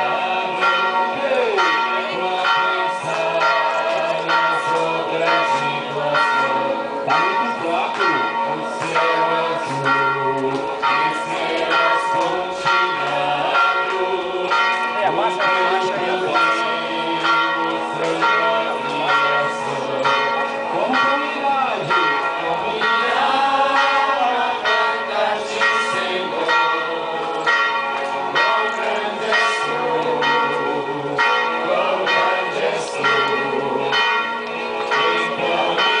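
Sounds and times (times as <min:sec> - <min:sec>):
church bells ringing: 0:00.0 - 0:36.0
crowd voices: 0:00.0 - 0:36.0.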